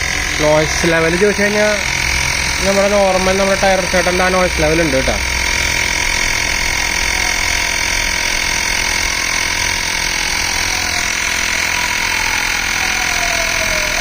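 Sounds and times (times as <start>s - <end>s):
electric air compressor buzzing: 0.0s - 14.0s.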